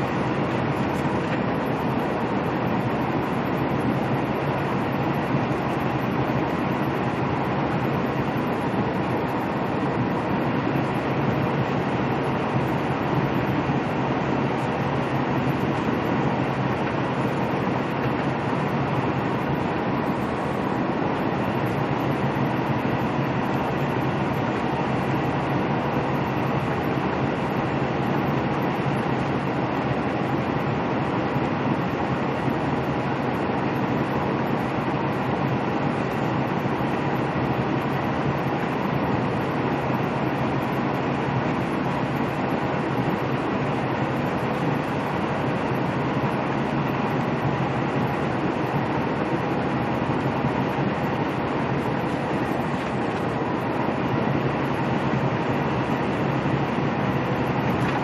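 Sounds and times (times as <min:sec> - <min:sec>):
truck engine and tyre noise: 0:00.0 - 0:58.0.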